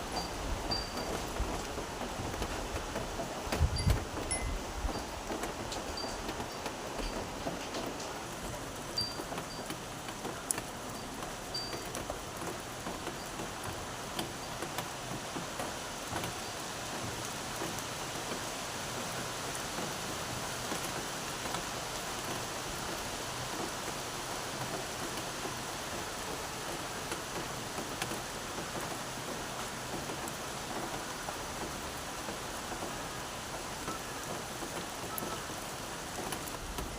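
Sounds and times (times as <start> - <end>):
steady rain falling: 0.0 - 36.9.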